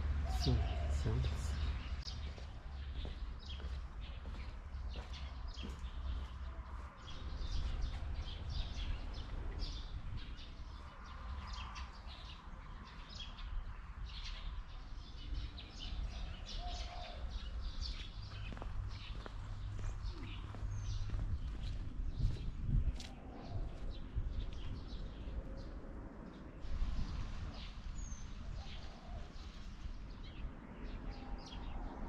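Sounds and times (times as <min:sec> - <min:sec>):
small birds chirping: 0:00.2 - 0:32.0.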